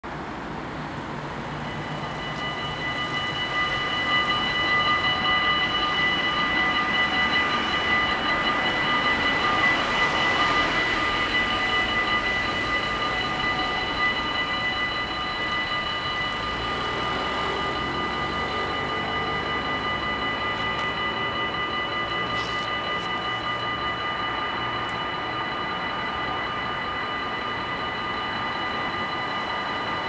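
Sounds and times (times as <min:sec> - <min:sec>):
level-crossing warning bells: 0:00.1 - 0:30.0.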